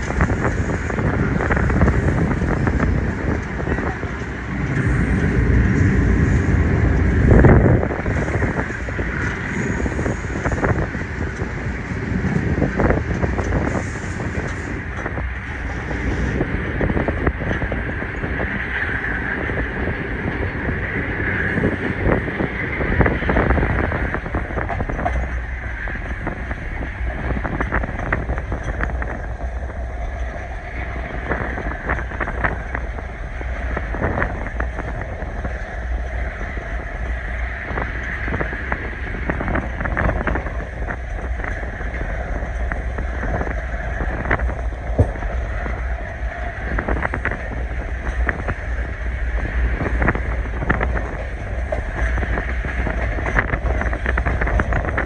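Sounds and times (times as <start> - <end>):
train coach rumble and rattle: 0.0 - 55.0
wind buffeting microphone: 0.0 - 55.0.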